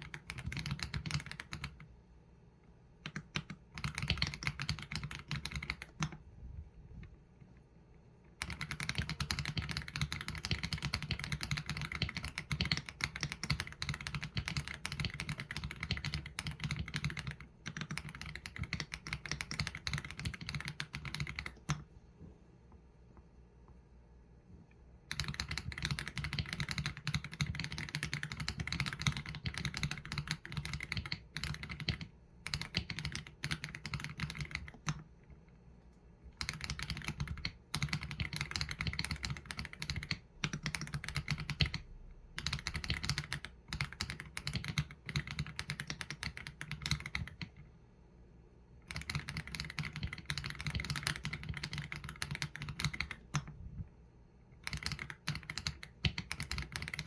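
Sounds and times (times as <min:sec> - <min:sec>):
mechanical keyboard typing: 0:00.0 - 0:01.9, 0:03.0 - 0:06.2, 0:08.3 - 0:21.9, 0:25.0 - 0:35.4, 0:36.3 - 0:47.6, 0:48.8 - 0:53.6, 0:54.6 - 0:57.0.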